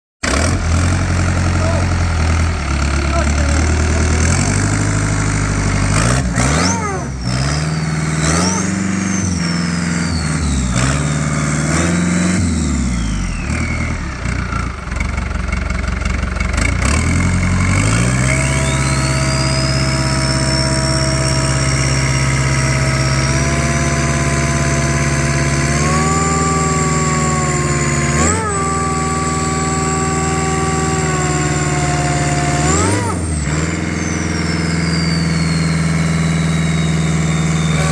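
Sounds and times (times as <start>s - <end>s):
diesel engine revving: 0.2s - 37.9s.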